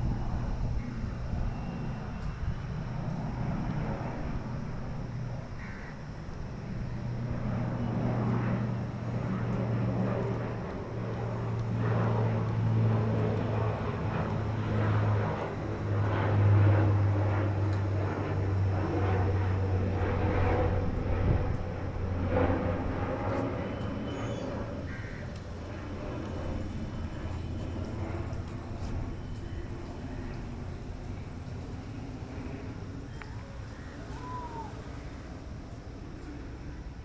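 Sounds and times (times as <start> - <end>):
helicopter idling: 0.0 - 37.0.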